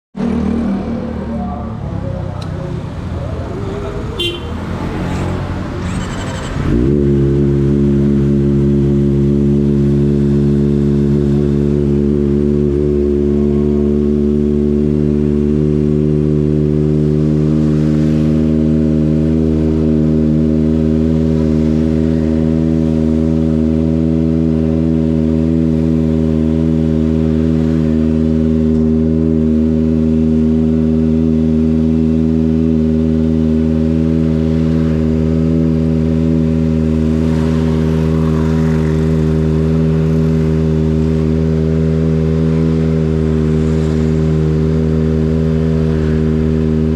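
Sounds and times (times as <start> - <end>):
motorcycle engine droning steadily: 0.2 - 46.9.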